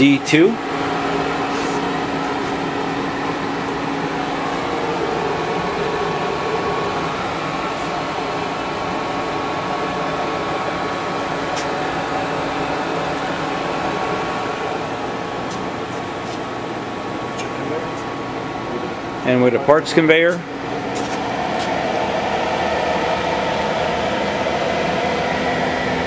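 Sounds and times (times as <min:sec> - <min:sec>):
lathe running hum: 0:00.0 - 0:26.0
thin high whine: 0:00.0 - 0:26.0.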